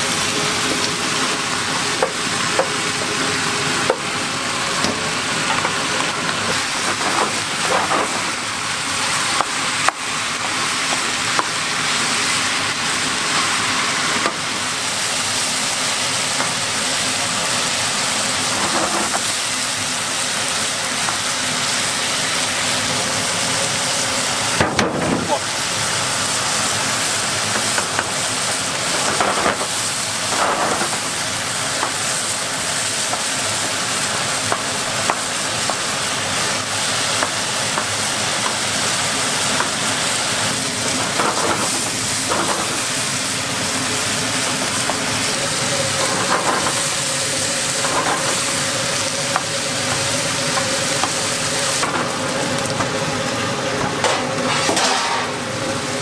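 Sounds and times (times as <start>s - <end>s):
chicken sizzling in a pan: 0.0s - 56.0s.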